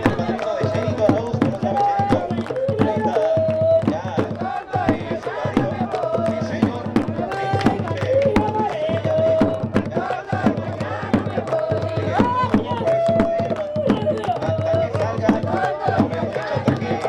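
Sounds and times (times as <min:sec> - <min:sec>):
folk drums quick steady beat: 0:00.0 - 0:17.0.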